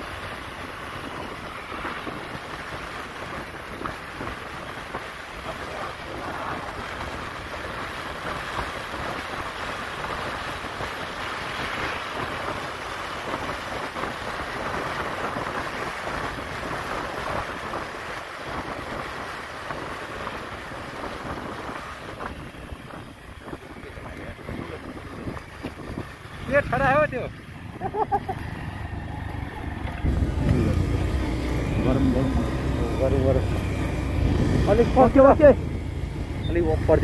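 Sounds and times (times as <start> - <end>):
wind buffeting microphone: 0.0 - 26.7, 27.5 - 37.0
steady rushing noise: 0.0 - 37.0.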